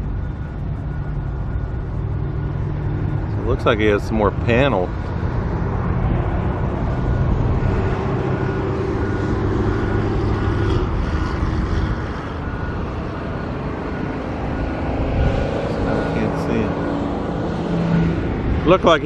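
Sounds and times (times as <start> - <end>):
road traffic noise: 0.0 - 19.0
vehicle engine running: 0.0 - 19.0.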